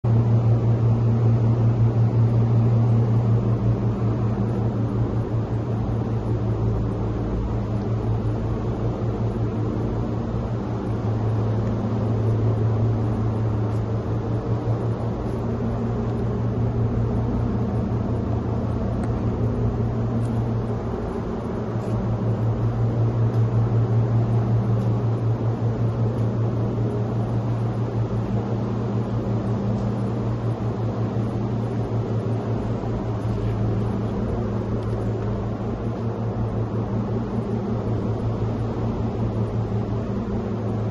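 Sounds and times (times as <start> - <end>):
machine humming with flutter: 0.0 - 40.9.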